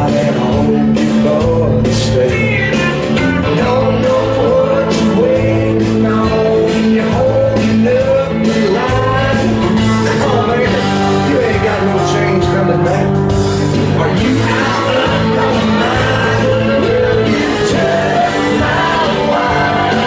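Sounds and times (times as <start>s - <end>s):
rock-pop song over sound system: 0.0s - 20.0s.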